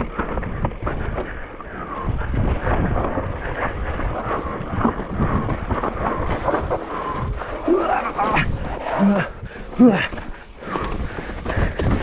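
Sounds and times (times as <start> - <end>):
bike knocks and rattles: 0.0 - 8.7, 9.3 - 12.0
wind buffeting the microphone: 0.0 - 12.0.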